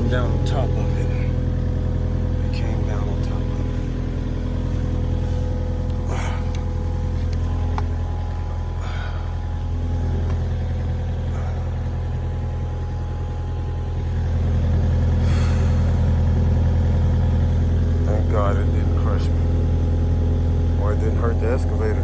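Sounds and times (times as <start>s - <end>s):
excavator engine idling: 0.0s - 22.0s.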